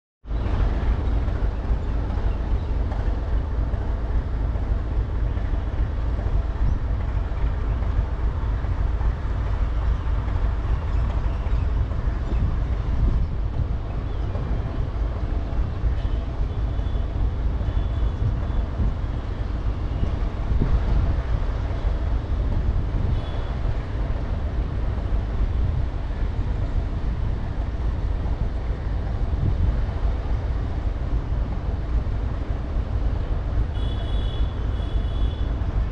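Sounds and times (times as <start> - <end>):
freight train rumbling past: 0.2 - 35.9.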